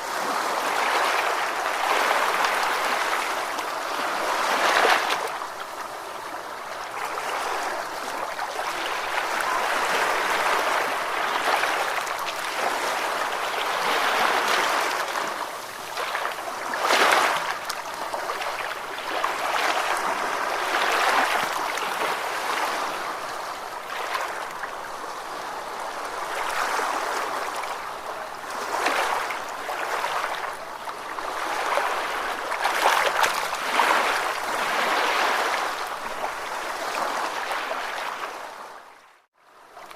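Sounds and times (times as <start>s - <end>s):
wave splash: 0.0s - 38.7s
ocean waves washing: 0.0s - 38.8s.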